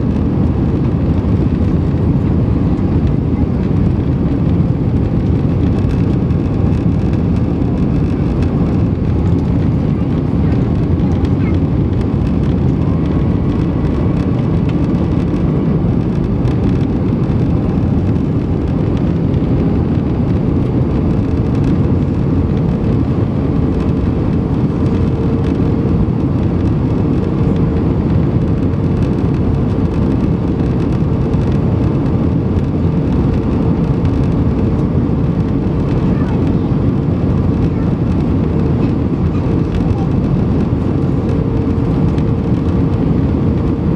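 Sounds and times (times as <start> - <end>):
airplane cabin airflow and engines: 0.0 - 43.9
faint steady engine tone: 0.0 - 43.9.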